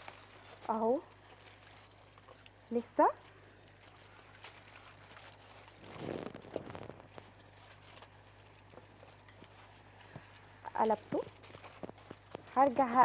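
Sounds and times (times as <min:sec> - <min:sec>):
aluminium foil rustling: 0:00.0 - 0:13.0.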